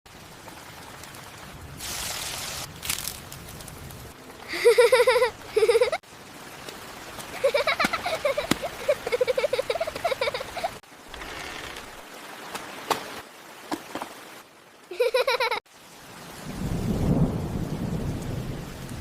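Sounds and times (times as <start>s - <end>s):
rain falling: 0.1s - 19.0s.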